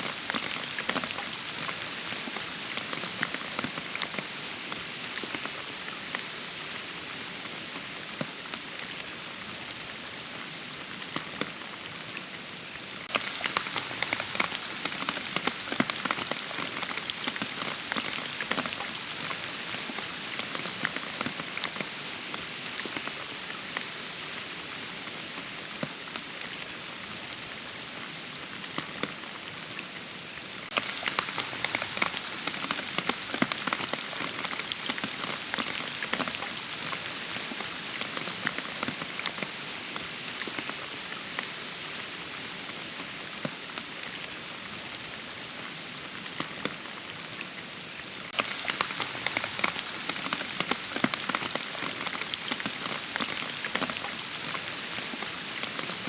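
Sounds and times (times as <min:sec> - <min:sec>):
rain patter: 0:00.0 - 0:56.0.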